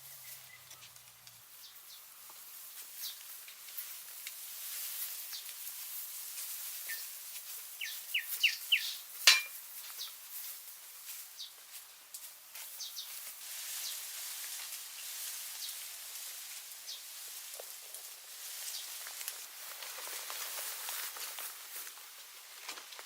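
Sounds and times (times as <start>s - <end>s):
small birds chirping: 0.0s - 14.1s, 14.7s - 19.6s.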